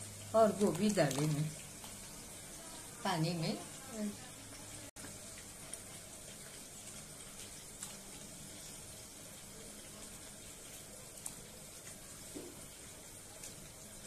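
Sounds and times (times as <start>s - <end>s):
hot water hissing in a pot: 0.0s - 14.0s.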